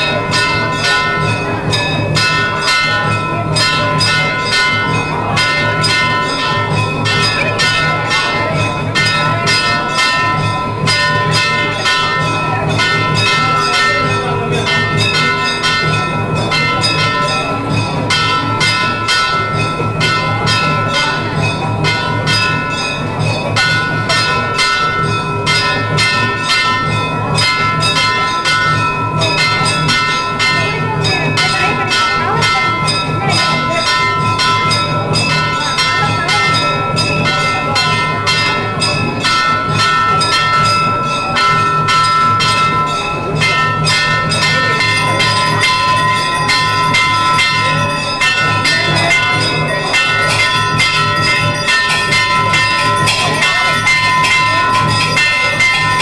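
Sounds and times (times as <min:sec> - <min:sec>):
temple bells ringing rapidly: 0:00.0 - 0:56.0.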